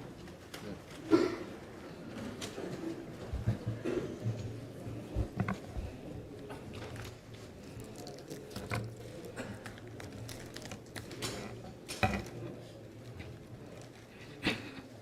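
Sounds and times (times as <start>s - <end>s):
faint murmuring: 0.0s - 15.0s.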